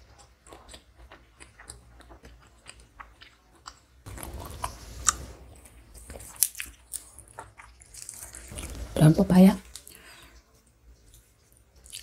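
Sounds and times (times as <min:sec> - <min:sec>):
chewing food: 0:00.0 - 0:09.0, 0:09.6 - 0:12.0.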